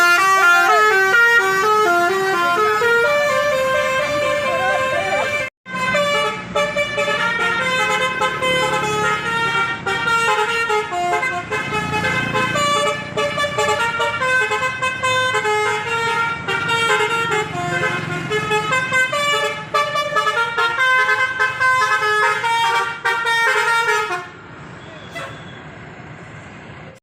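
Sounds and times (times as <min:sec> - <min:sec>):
bus horns playing melodic tunes: 0:00.0 - 0:25.6.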